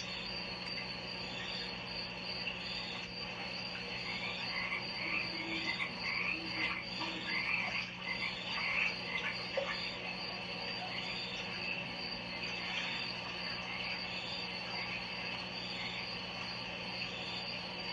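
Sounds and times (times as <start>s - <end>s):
frogs croaking: 0.0s - 17.9s
insect trill: 0.0s - 17.9s.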